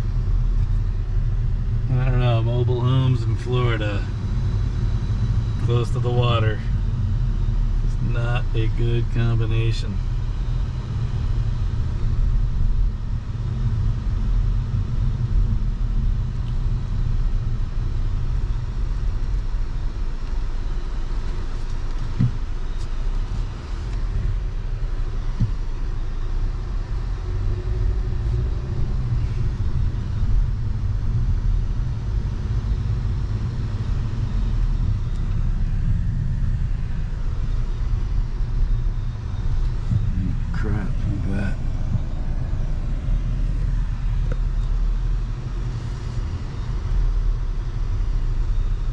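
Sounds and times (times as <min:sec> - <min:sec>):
car driving on road: 0:00.0 - 0:48.9.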